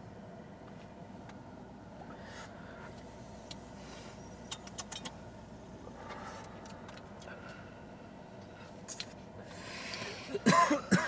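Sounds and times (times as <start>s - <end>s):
car interior hum: 0.0s - 11.0s.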